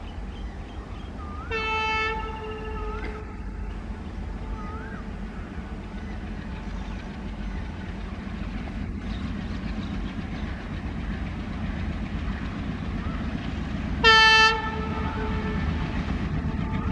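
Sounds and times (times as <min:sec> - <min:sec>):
diesel train rumbling: 0:00.0 - 0:16.9.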